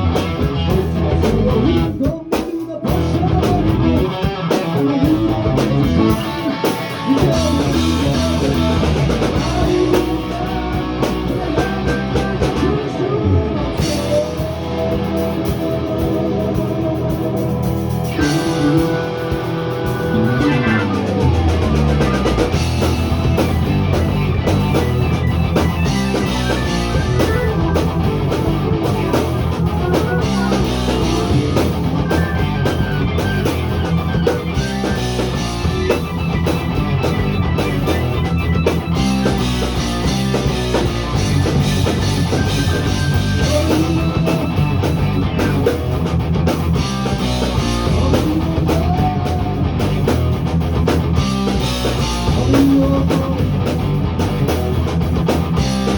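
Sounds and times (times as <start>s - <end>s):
loud rock music: 0.0s - 55.9s.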